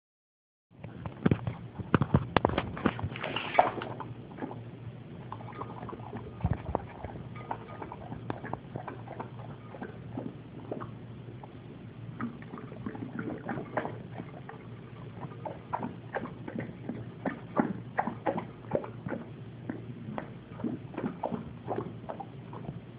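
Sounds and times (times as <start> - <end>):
dog lapping water: 1.3 - 22.9.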